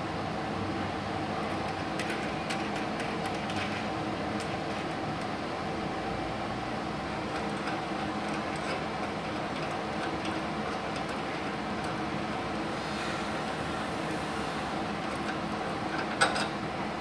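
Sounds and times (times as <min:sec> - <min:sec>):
welding machine fan running: 0:01.1 - 0:17.0.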